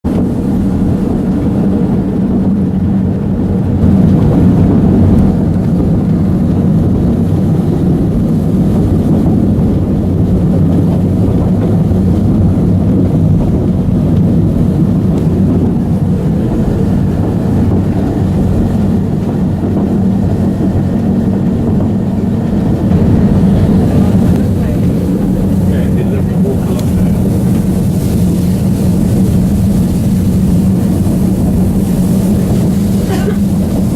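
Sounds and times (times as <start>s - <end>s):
train rumbling along track: 0.0s - 33.9s.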